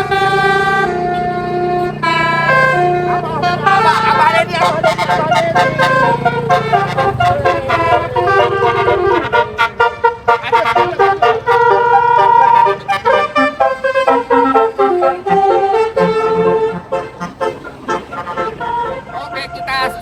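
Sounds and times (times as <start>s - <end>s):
low engine rumble: 0.0s - 20.0s
multi-tone bus horn melody: 0.0s - 20.0s.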